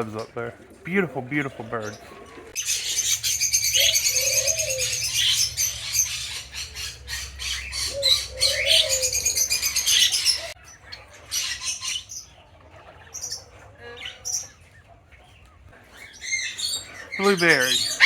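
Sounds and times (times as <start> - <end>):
doves cooing: 0.0 - 18.0
parrots chirping and chattering: 0.0 - 18.0.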